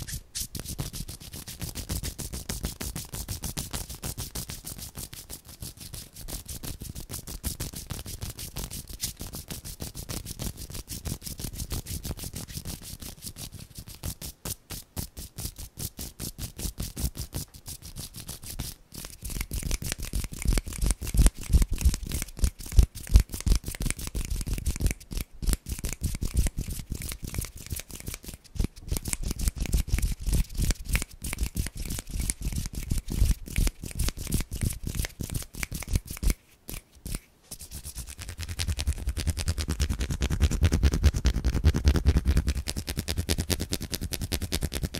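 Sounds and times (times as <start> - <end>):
skin rubbing: 0.0 - 44.9.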